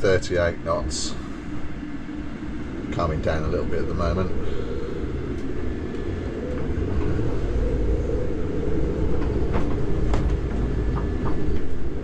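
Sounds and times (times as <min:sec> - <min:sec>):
strong wind rumbling: 0:00.0 - 0:12.0.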